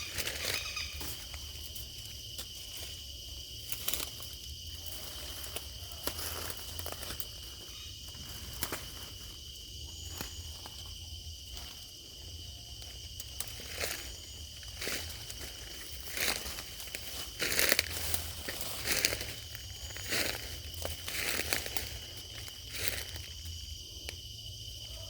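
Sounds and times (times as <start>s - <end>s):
footsteps on forest ground: 0.0s - 3.6s, 5.0s - 25.0s
high insect drone: 0.0s - 25.0s.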